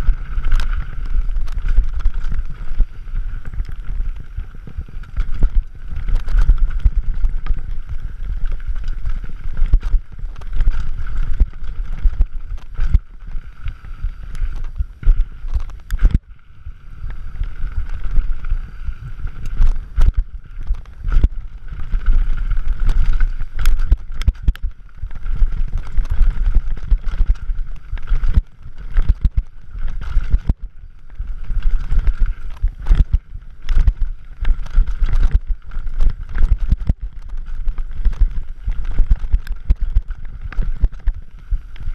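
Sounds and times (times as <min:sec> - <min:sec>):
bike rattling over bumps: 0:00.0 - 0:41.9
wind and tyres on dirt rumble: 0:00.0 - 0:41.9.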